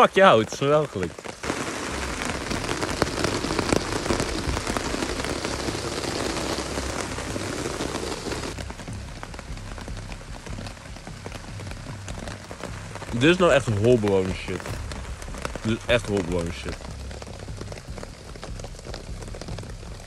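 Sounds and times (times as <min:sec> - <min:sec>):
steady rain in forest: 0:00.0 - 0:20.0.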